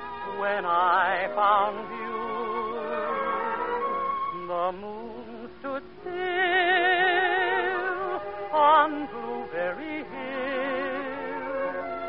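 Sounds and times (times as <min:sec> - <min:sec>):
orchestral slow ballad: 0:00.0 - 0:12.0.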